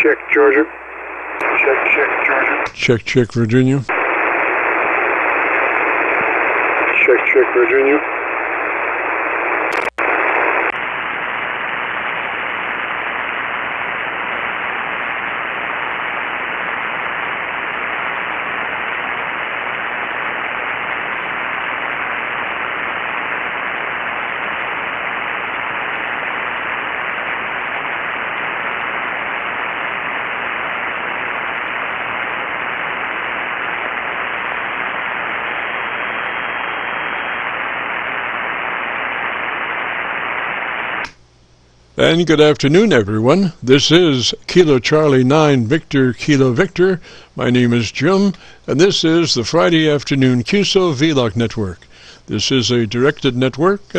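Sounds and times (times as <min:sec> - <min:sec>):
radio receiver hiss and static: 0:00.0 - 0:53.9.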